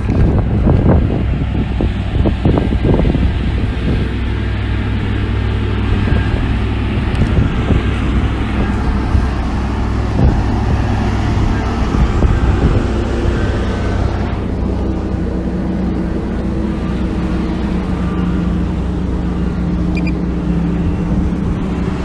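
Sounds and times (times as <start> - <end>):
diesel machinery engine rumble: 0.0 - 22.0.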